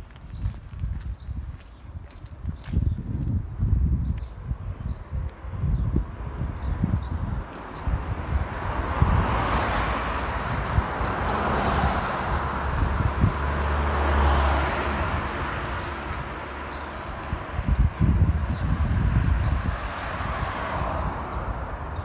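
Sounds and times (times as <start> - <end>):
vehicles passing by: 0.0 - 22.0.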